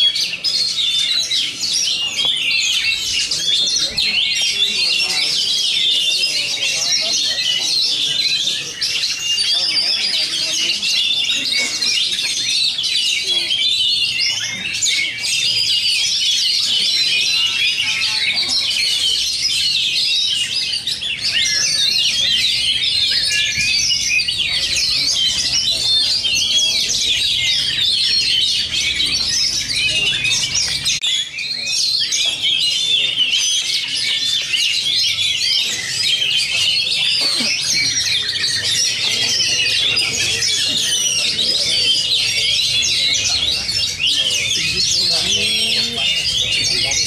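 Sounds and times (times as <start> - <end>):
chorus of caged birds singing: 0.0 - 47.0
magpie-robin singing chirps and whistles: 0.0 - 47.0.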